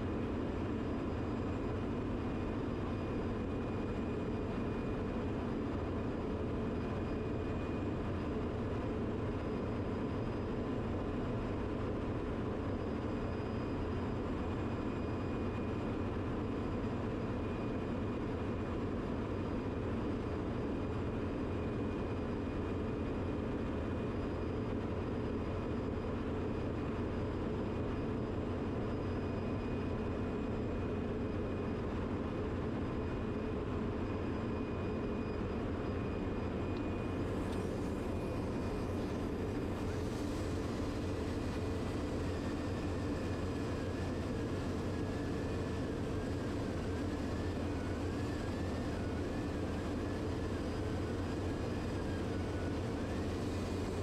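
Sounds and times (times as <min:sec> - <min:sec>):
engine room machinery drone: 0:00.0 - 0:54.0
thin constant whine: 0:00.0 - 0:54.0.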